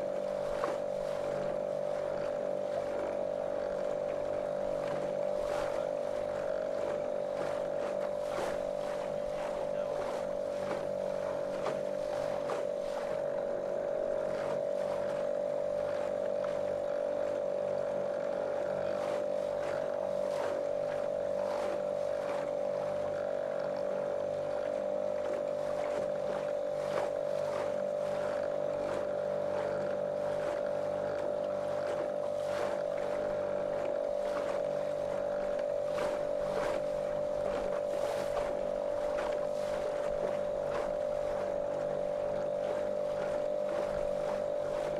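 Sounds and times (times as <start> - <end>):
motorboat motor droning: 0.0 - 44.9
water splashing against hull: 0.0 - 44.9.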